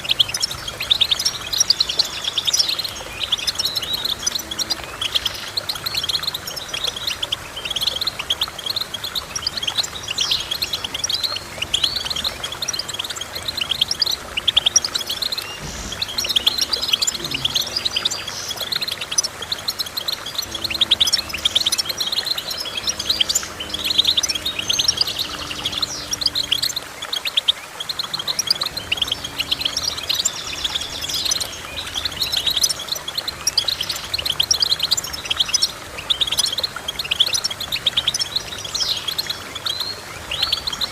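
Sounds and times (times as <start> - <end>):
goldfinch twittering song: 0.0 - 40.9.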